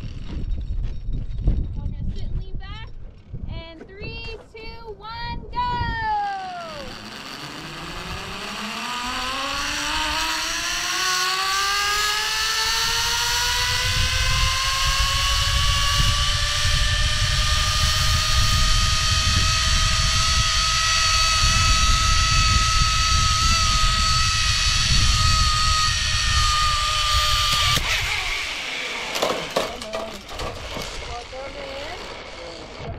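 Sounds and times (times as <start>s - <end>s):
wind rushing on microphone: 0.0s - 7.0s, 12.6s - 28.7s, 29.4s - 32.9s
pulleys whining on steel cable: 6.1s - 32.9s.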